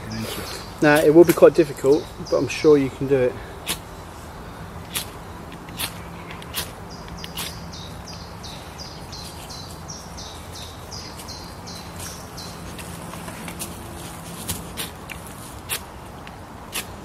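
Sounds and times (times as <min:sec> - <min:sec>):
small bird singing: 0:00.0 - 0:13.7.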